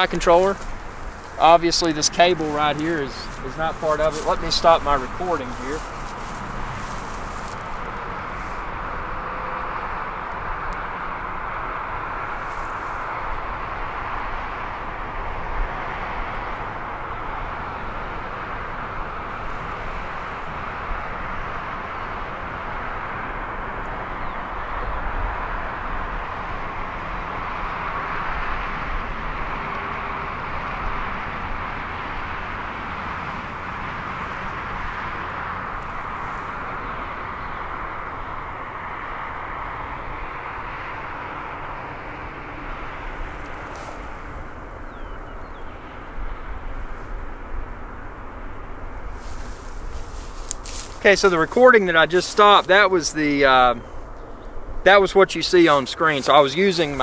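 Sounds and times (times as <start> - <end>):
cars passing on road: 0.0 - 57.0.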